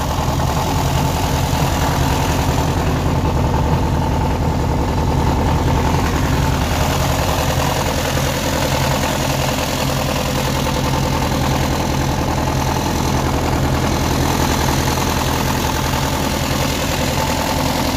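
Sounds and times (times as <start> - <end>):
tractor diesel engine idling: 0.0 - 17.9.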